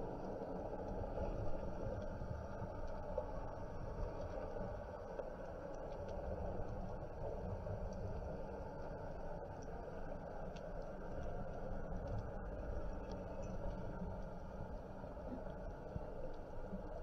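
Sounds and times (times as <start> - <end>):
underwater low rumble: 0.0 - 17.0
faint ticks: 0.1 - 17.0.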